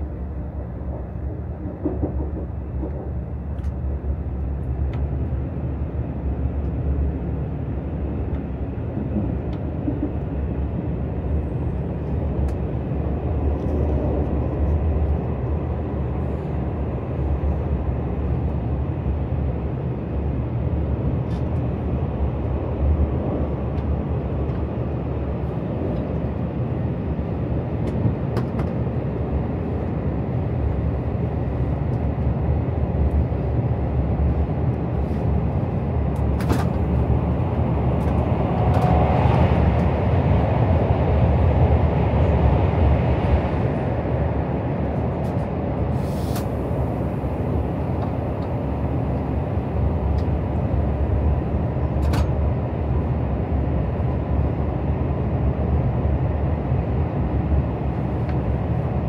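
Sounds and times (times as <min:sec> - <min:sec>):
train running noise: 0:00.0 - 0:59.0.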